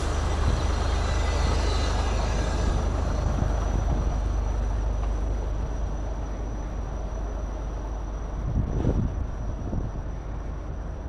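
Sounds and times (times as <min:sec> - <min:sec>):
heavy vehicle rumble: 0:00.0 - 0:11.0.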